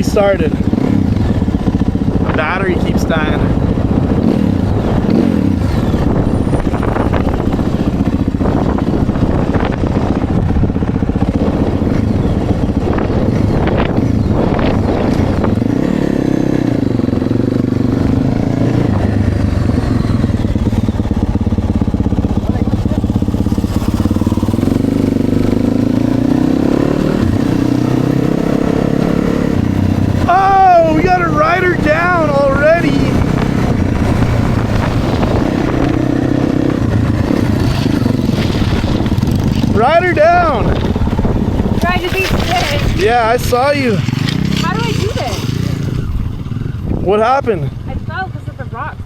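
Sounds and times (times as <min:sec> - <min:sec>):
dirt bike engine running: 0:00.0 - 0:49.0.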